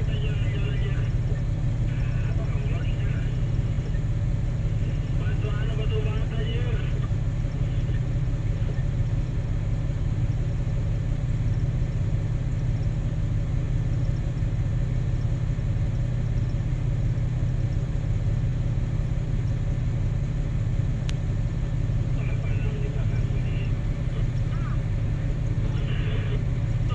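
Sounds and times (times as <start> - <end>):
large diesel engine rumbling: 0.0 - 26.9.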